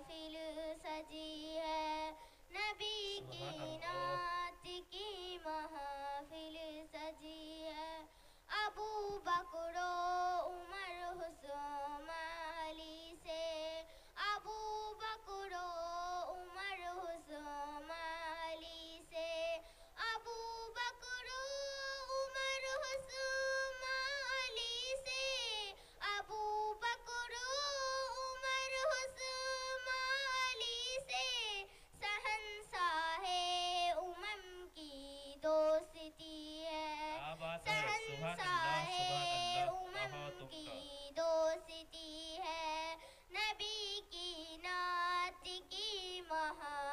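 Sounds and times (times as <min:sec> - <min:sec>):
girl singing unaccompanied: 0:00.0 - 0:46.9.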